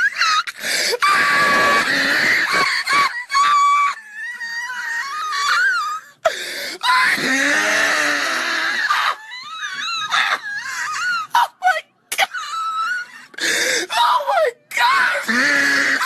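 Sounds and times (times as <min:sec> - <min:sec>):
person screaming and wailing: 0:00.0 - 0:06.0, 0:06.8 - 0:16.0.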